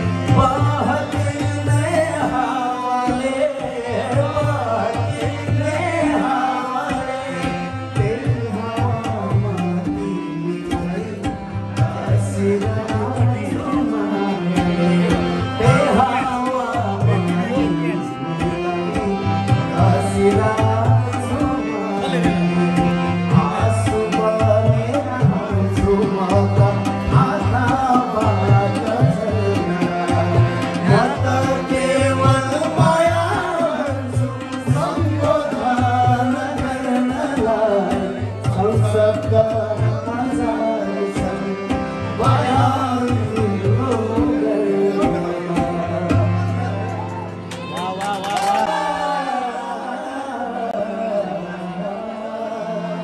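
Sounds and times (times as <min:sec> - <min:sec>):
man singing: 0:00.0 - 0:47.0, 0:47.6 - 0:53.0
harmonium: 0:00.0 - 0:53.0.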